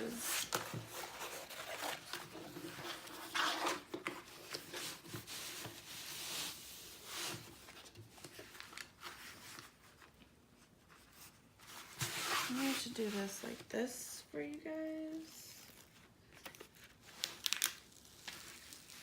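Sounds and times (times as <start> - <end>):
packaging rustling and crinkling: 0.0 - 10.2, 11.1 - 13.7, 15.1 - 19.0.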